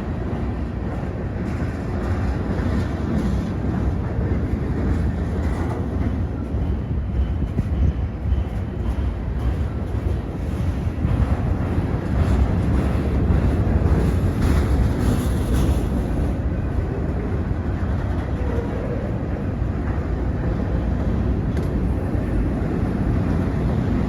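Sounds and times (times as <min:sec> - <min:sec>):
freight train rumbling past: 0:00.0 - 0:24.0
wind on microphone: 0:00.0 - 0:24.0.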